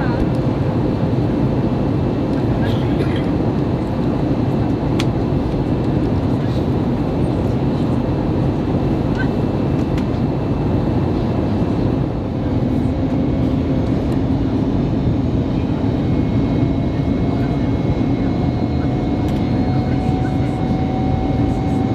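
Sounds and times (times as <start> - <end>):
aircraft cabin rumble: 0.0 - 21.9.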